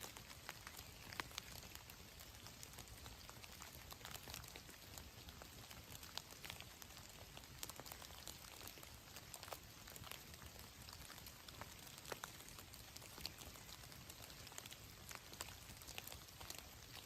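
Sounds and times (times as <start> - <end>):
raindrops ticking: 0.0 - 17.0
soft steady rain hiss: 0.0 - 17.0.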